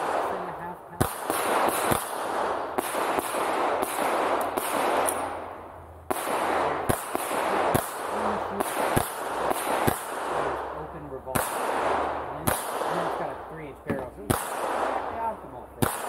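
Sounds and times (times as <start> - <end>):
handgun shots echoing: 0.0 - 5.5, 6.1 - 13.3, 13.9 - 16.0.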